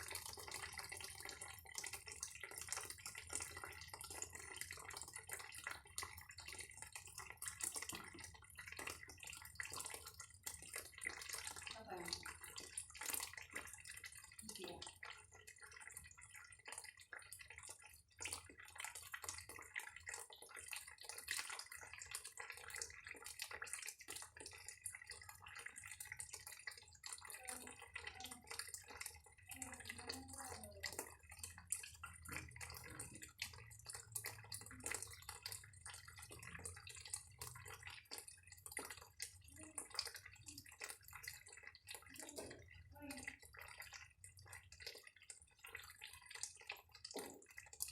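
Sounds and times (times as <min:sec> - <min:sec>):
running water splashing: 0:00.0 - 0:47.9.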